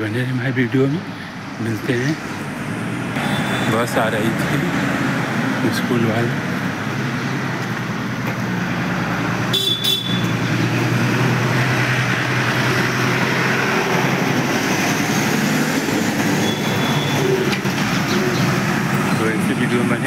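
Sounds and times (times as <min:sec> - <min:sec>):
bus engine passing: 0:00.0 - 0:20.0
road noise: 0:00.0 - 0:20.0.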